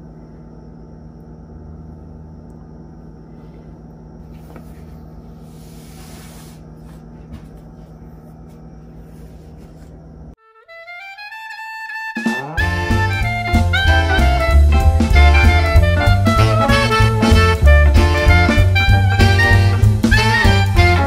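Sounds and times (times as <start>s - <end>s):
background hum and hiss: 0.0s - 10.4s, 11.0s - 21.0s.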